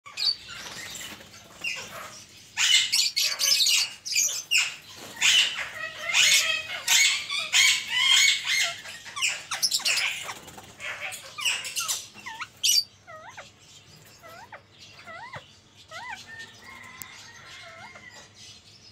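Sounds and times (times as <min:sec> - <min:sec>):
parakeets squawking: 0:00.1 - 0:18.5
soft bird chirps: 0:00.1 - 0:18.9.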